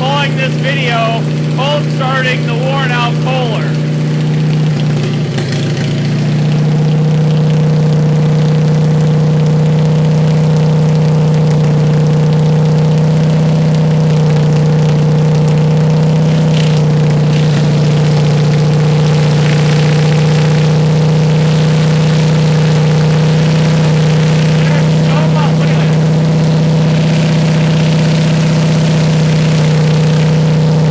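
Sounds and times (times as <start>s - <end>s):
garden tractor engine running: 0.0s - 30.9s.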